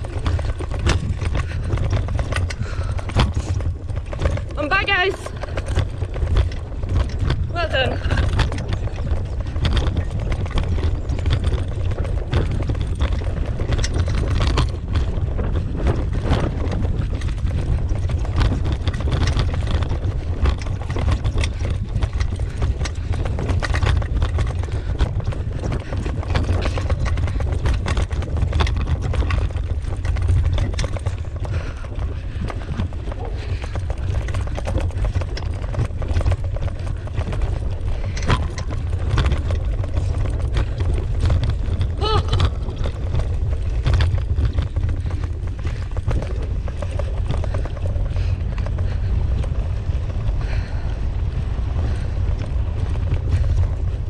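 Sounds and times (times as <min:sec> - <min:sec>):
rig rattling and knocking: 0:00.0 - 0:50.7
wheeled rig rumbling on dirt: 0:00.0 - 0:54.0.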